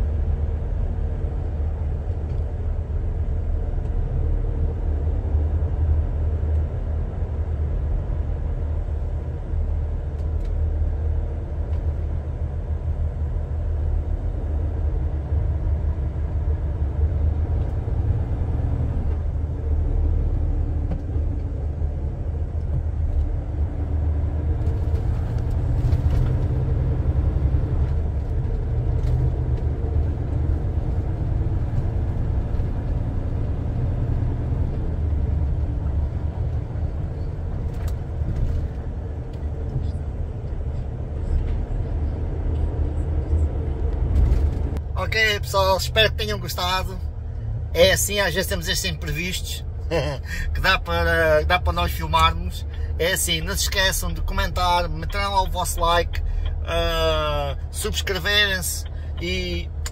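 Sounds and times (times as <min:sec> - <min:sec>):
lorry engine rumble from cab: 0:00.0 - 0:59.9.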